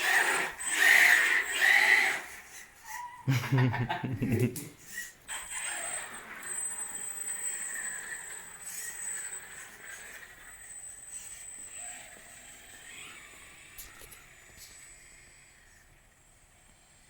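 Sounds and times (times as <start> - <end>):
rc car electric drive whine: 0.0 - 3.5, 4.8 - 17.0.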